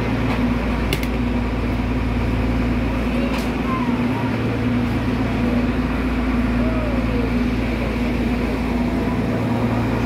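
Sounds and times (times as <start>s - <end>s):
diesel railcar idling: 0.0s - 10.0s.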